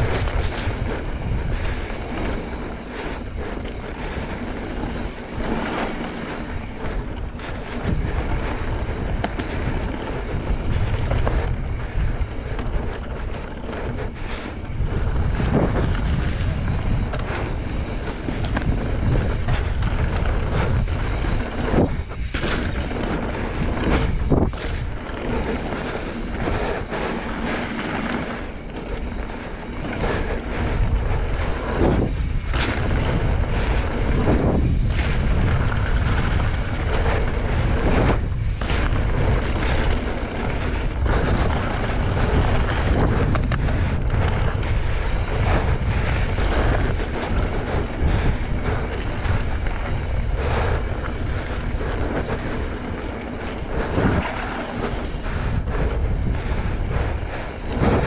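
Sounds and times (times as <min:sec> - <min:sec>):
bike clattering over bumps: 0:00.0 - 0:58.0
tyres rolling on dirt: 0:00.0 - 0:58.0
wind rushing over microphone: 0:00.0 - 0:58.0.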